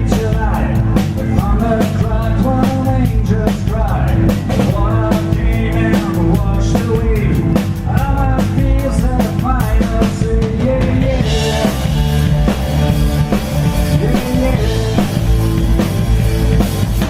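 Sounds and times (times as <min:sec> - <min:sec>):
blues-rock band playing live: 0:00.0 - 0:17.0
drum kit beat: 0:00.0 - 0:17.0.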